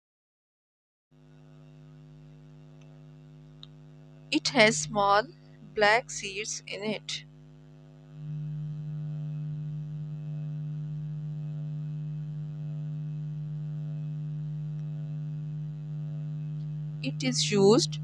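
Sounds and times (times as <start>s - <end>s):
buzzy electrical hum: 1.2s - 18.0s.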